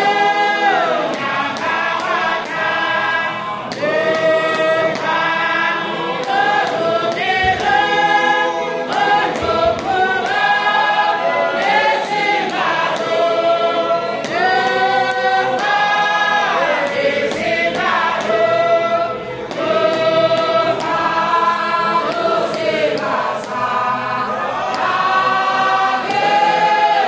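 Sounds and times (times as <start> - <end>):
women's choir singing a hymn: 0.0 - 27.0.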